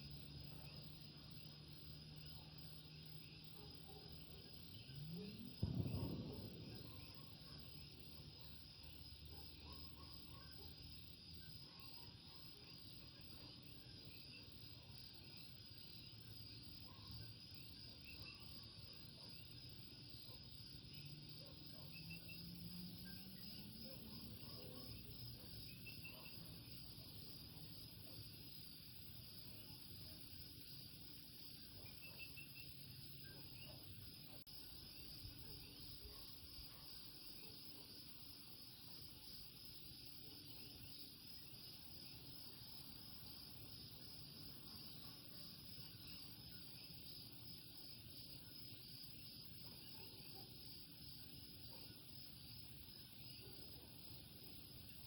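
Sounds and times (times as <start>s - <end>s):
frogs and insects night chorus: 0.0s - 55.0s.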